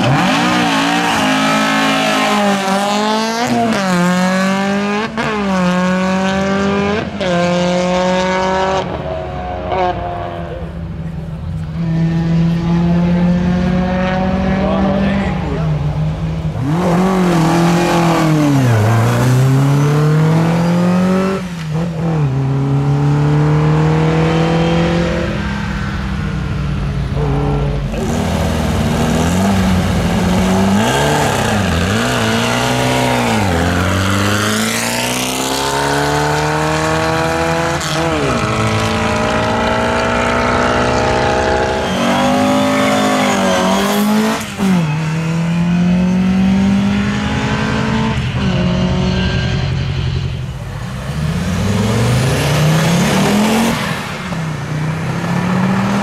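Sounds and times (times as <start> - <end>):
racing car engines accelerating: 0.0 - 56.0.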